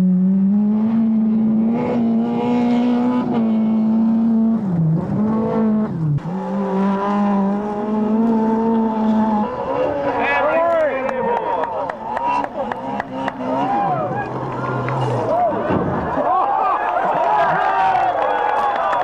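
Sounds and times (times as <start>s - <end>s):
rally car engine at high revs: 0.0s - 16.2s.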